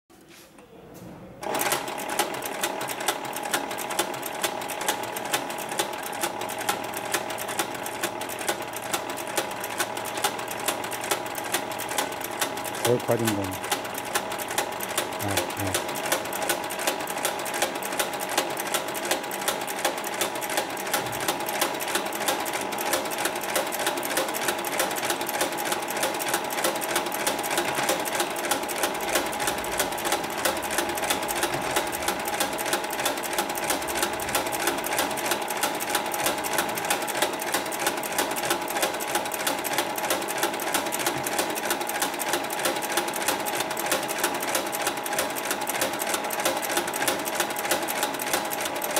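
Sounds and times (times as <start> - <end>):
sewing machine running: 1.4 - 48.9.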